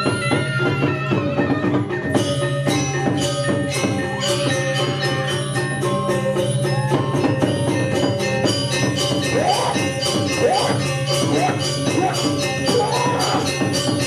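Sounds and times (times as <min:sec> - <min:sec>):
gamelan music: 0:00.0 - 0:14.0.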